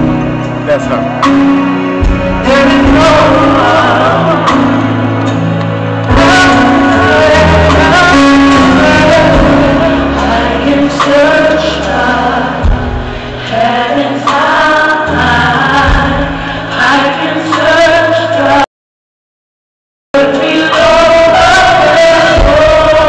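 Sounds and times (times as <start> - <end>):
instrumental accompaniment: 0.0 - 18.6
choir singing: 1.6 - 18.7, 20.2 - 23.0.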